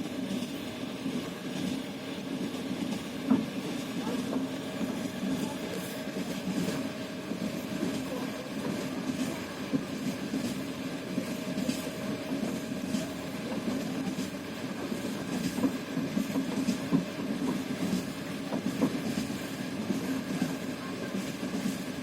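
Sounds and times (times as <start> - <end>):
train wheels clattering: 0.3 - 22.0.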